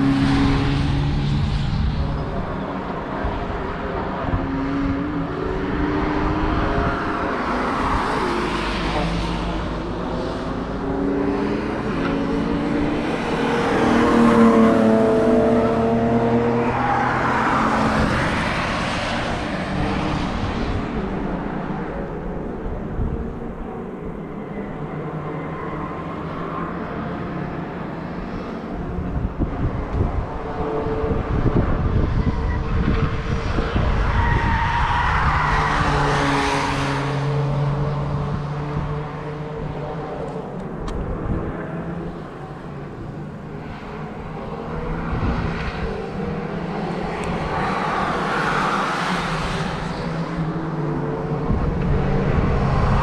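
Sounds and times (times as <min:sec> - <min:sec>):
race cars driving past: 0:00.0 - 0:53.0.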